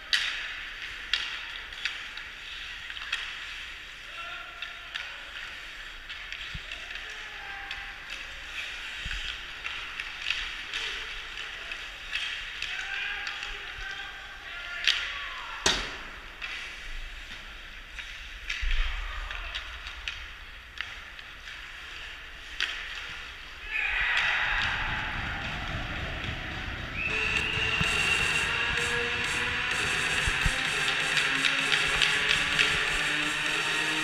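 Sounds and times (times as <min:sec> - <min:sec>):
skates scraping ice: 0:00.0 - 0:15.2, 0:16.1 - 0:34.0
hockey sticks and puck clacking: 0:00.0 - 0:34.0.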